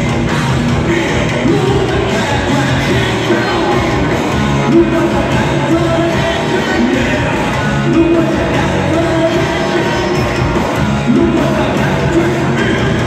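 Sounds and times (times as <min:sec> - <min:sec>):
lead vocal singing: 0:00.0 - 0:13.0
live metal band playing: 0:00.0 - 0:13.0.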